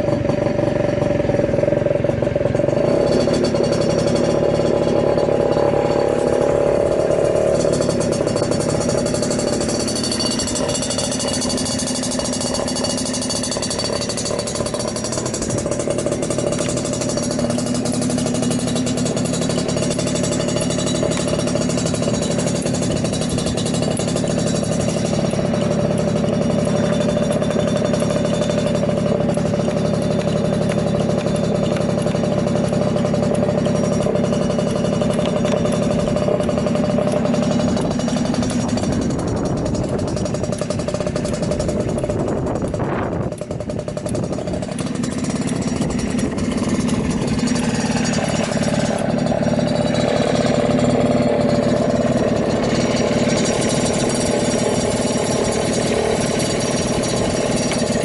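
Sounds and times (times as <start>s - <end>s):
two-stroke scooter engine idling: 0.0s - 58.0s.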